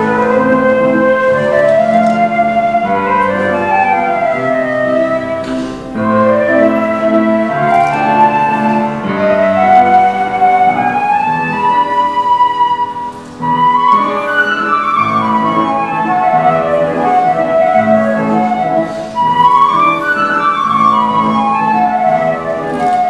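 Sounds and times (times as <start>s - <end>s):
live instrumental music: 0.0s - 23.0s.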